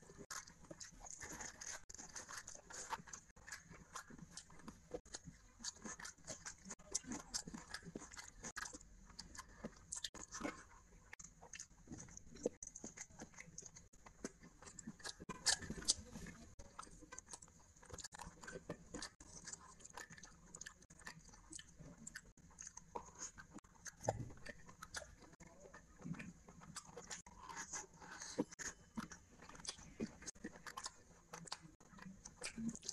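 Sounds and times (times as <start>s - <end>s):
wet chewing: 0.0s - 32.9s.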